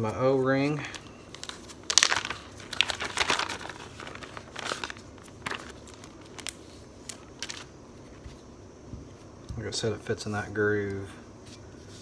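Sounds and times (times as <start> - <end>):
crinkling rustling handling noises: 0.0 - 9.7.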